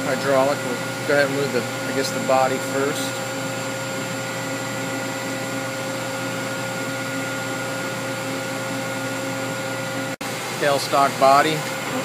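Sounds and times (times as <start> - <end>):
lathe humming with steady tones: 0.0 - 12.0.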